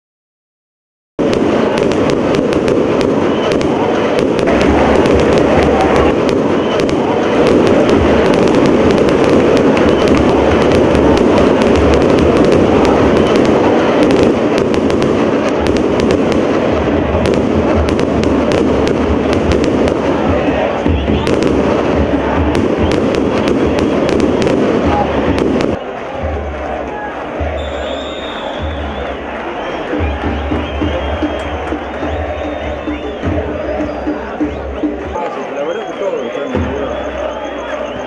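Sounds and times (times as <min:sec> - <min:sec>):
fireworks crackling and popping: 0:01.2 - 0:38.0
stadium crowd din: 0:01.2 - 0:38.0.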